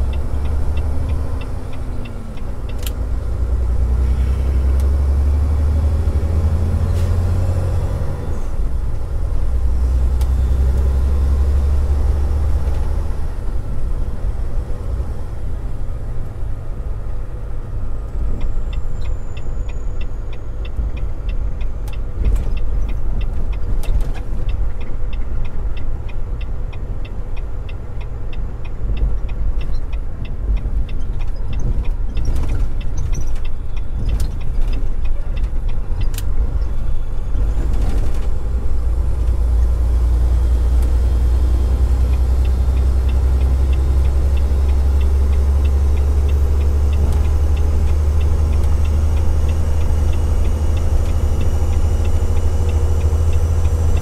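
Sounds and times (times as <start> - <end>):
truck engine rumble: 0.0 - 54.0.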